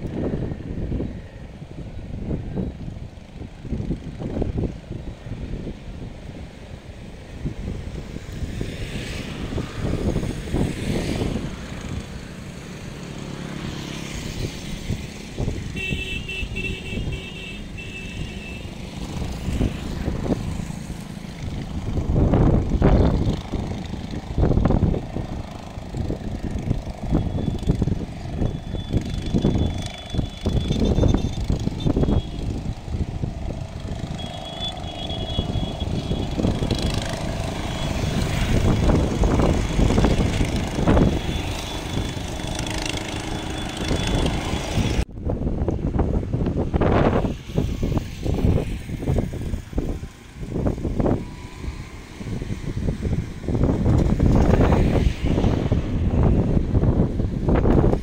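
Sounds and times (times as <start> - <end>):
road traffic rumble: 0.0 - 58.0
wind buffeting microphone: 0.0 - 58.0.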